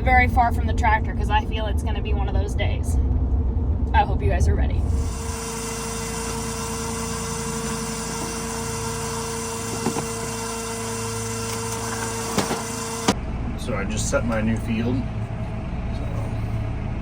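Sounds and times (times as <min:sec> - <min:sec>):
engine running with whine: 0:00.0 - 0:17.0.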